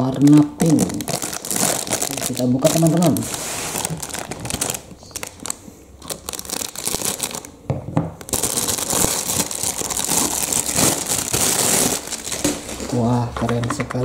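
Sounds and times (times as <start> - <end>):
plastic bag crinkling: 0.0 - 7.6, 8.2 - 13.2.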